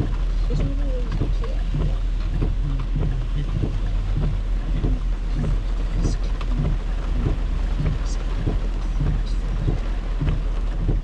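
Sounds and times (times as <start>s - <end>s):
car rumble: 0.0s - 11.0s
heavy rain on a car: 0.0s - 11.0s
windshield wipers sweeping: 0.0s - 11.0s.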